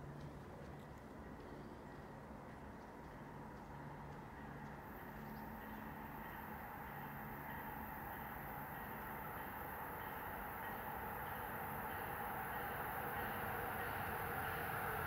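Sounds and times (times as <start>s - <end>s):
approaching train: 0.0s - 15.0s.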